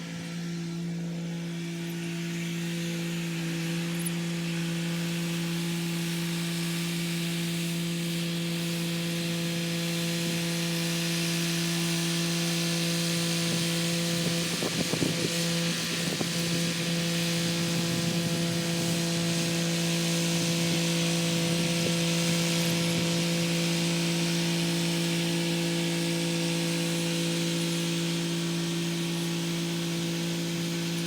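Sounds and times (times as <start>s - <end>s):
rotary tiller working: 0.0s - 31.0s
tractor diesel engine drone: 0.0s - 31.0s.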